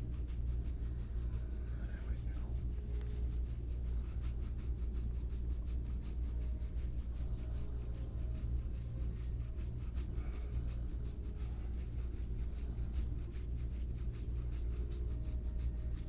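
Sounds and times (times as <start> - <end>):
massage strokes rubbing skin: 0.0 - 16.0
steady low hum: 0.0 - 16.0.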